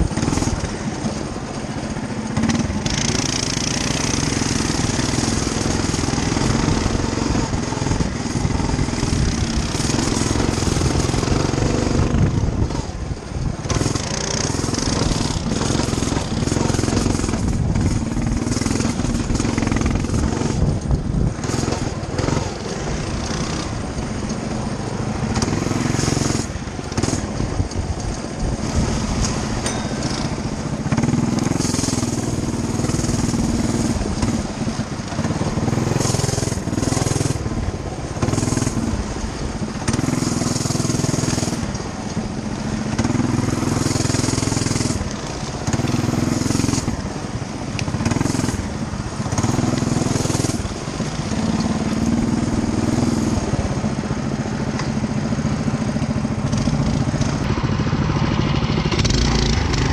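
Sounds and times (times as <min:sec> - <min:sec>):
mini bike engine running: 0:00.0 - 0:59.9
second mini bike engine: 0:00.0 - 0:59.9.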